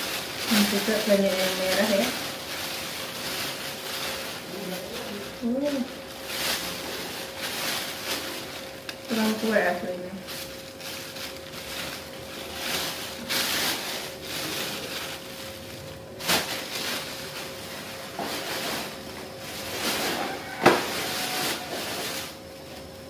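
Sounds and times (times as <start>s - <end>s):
sharp plastic crackles: 0.0s - 22.9s
plastic bag rustling and crinkling: 0.0s - 23.0s.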